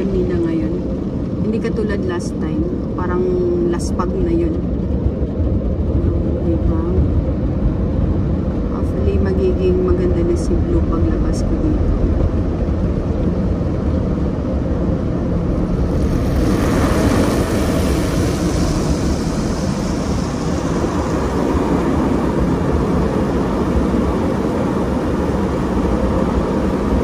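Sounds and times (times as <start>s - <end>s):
car wash machinery rumble: 0.0s - 27.0s.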